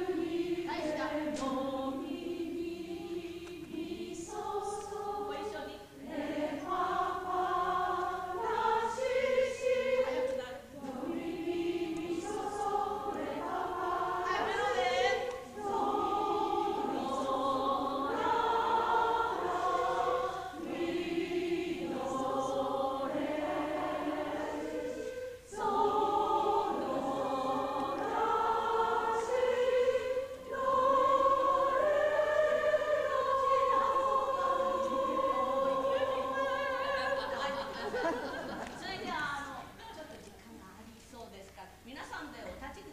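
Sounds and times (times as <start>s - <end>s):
choir singing slowly: 0.0s - 40.1s.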